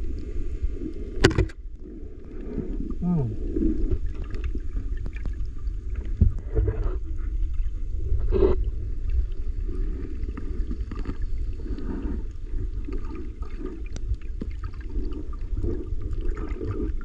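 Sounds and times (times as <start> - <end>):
gurgling water swish: 0.0 - 17.0
underwater low rumble: 0.0 - 17.0.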